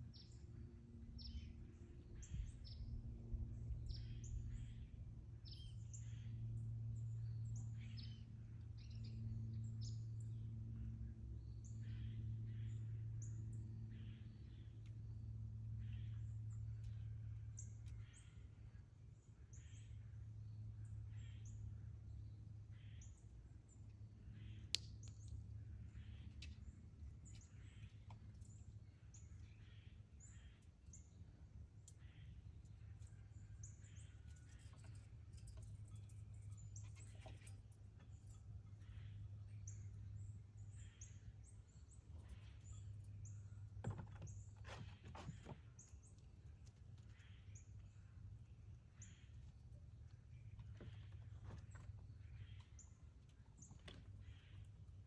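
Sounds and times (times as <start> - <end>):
faint birds chirping: 0.0 - 55.0
steady low hum: 0.0 - 55.0.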